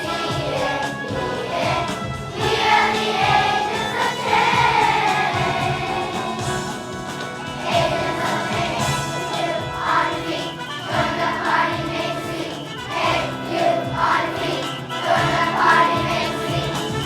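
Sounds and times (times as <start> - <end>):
choir singing: 0.0 - 17.0
musical accompaniment: 0.0 - 17.0.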